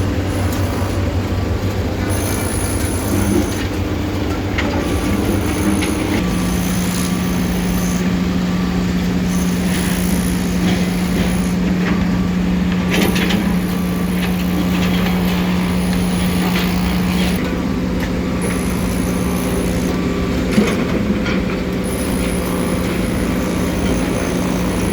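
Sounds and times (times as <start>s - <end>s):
heavy engine humming: 0.0s - 24.9s.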